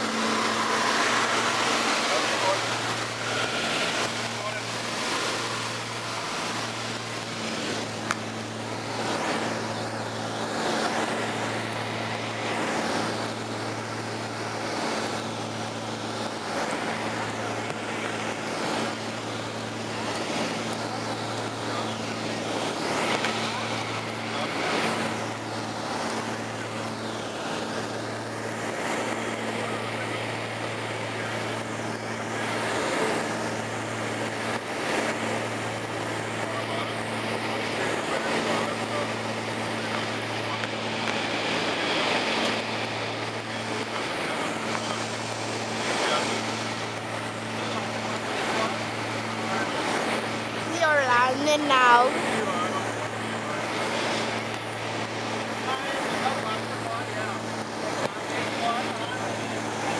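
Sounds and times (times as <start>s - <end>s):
low aircraft engine drone: 0.0s - 59.9s.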